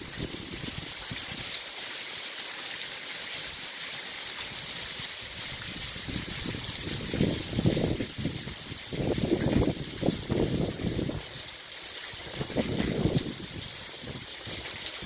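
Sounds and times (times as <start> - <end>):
rain on pavement: 0.0 - 15.0.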